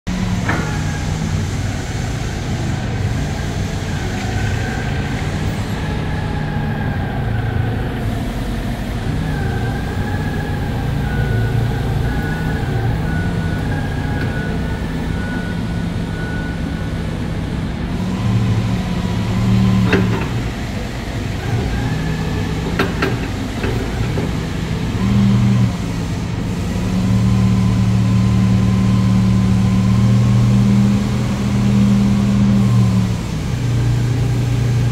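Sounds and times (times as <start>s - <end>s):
forklift engine running: 0.1s - 34.9s.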